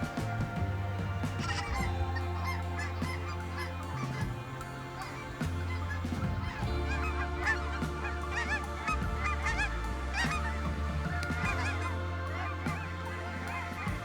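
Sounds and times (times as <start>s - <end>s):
background music with bass line: 0.0s - 14.0s
geese honking: 0.0s - 14.0s.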